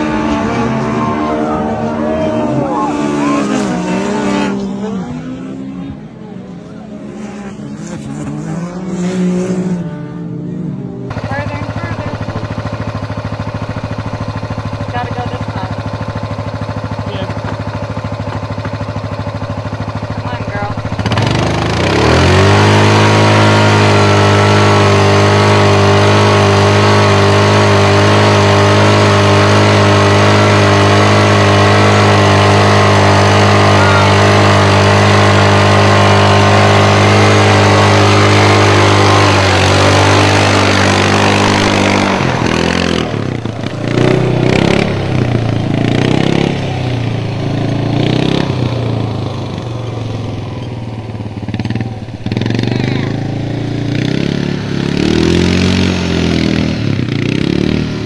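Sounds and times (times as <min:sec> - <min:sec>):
atv engine revving: 0:00.0 - 0:58.0
wheels spinning in mud: 0:11.1 - 0:58.0.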